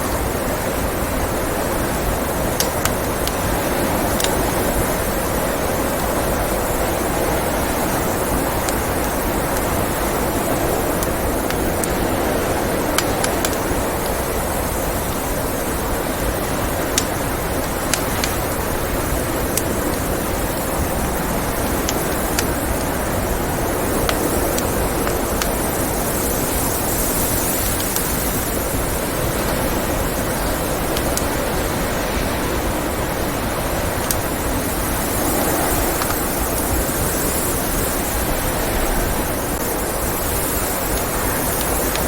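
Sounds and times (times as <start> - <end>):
blizzard wind rushing: 0.0 - 42.0
wood fire crackling: 0.0 - 42.0.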